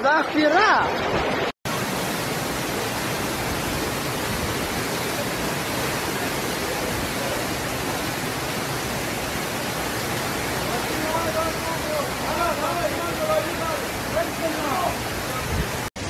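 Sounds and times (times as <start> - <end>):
floodwater rushing down a street: 0.0 - 16.0.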